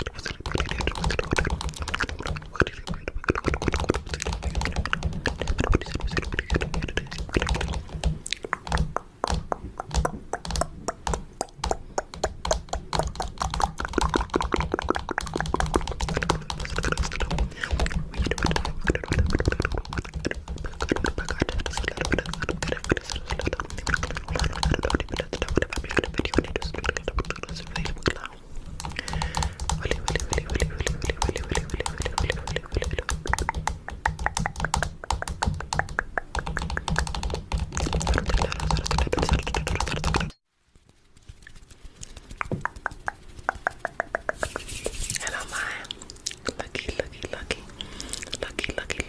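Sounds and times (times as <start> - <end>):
fingernails tapping on camera: 0.2 - 28.2, 28.8 - 40.4, 42.0 - 45.4.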